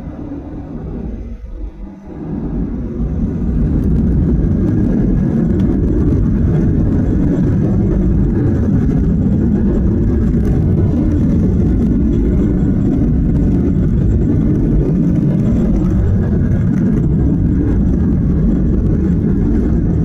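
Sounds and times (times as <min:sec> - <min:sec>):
jet engine cabin roar: 0:00.0 - 0:20.0.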